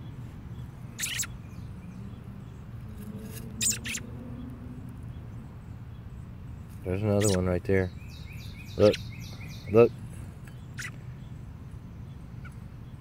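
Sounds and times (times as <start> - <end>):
bird chirping: 0.0 - 2.7, 3.5 - 13.0.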